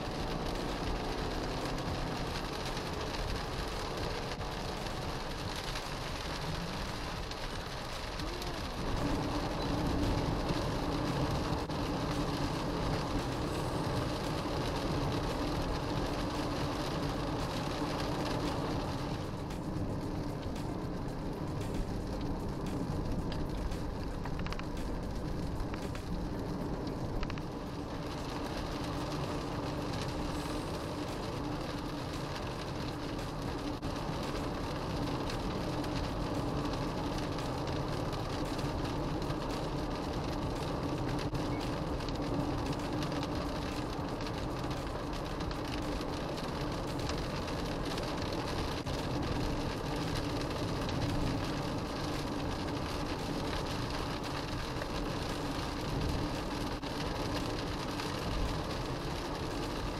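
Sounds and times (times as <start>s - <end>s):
low engine drone: 0.0s - 59.9s
tyres hissing on wet road: 0.0s - 59.9s.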